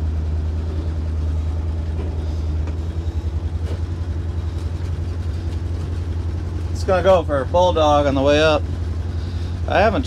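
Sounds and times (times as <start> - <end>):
truck engine rumbling and pulsing: 0.0 - 10.0.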